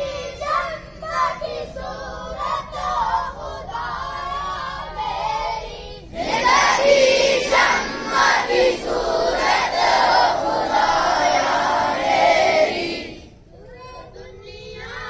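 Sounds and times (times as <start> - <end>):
boys chanting a prayer: 0.0 - 15.0.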